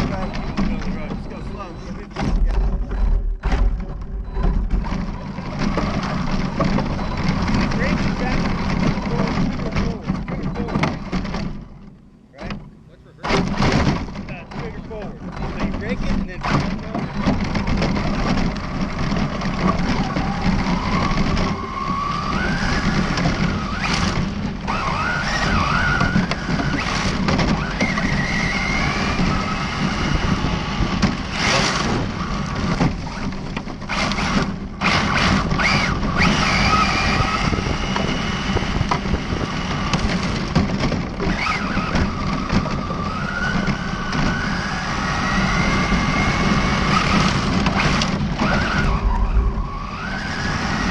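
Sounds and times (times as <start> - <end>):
electric motor whining: 0.0 - 50.9.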